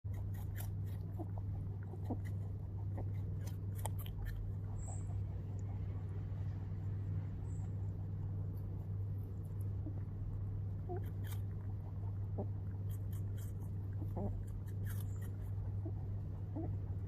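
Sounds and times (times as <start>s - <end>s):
rabbit crunching apple: 0.1s - 17.0s
rabbit grunting: 0.1s - 17.0s
steady low hum: 0.1s - 17.0s.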